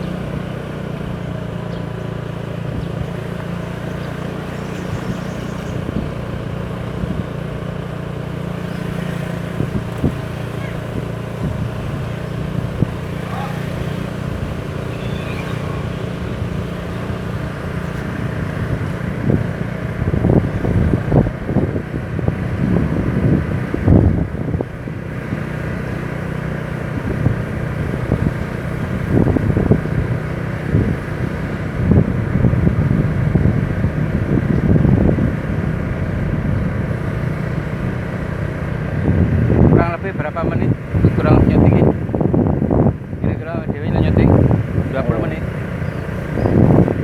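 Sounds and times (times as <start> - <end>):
vehicle engine humming: 0.0 - 47.0
wind buffeting microphone: 0.0 - 47.0.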